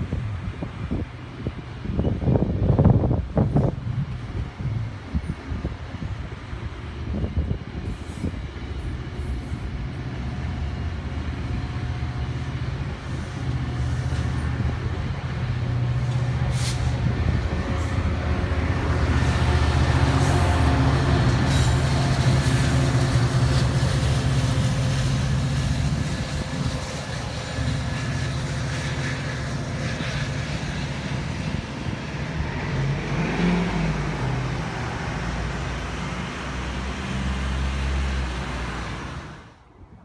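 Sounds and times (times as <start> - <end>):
locomotive passing: 0.0 - 39.7
train wheels rumbling on rails: 0.0 - 39.7.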